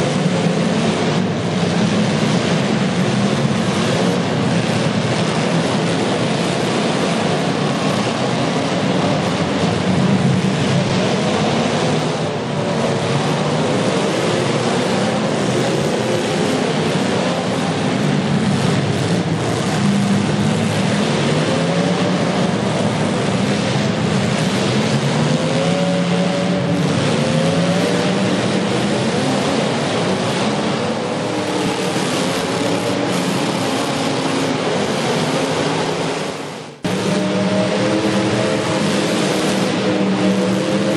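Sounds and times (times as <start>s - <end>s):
car engines revving together: 0.0s - 40.9s.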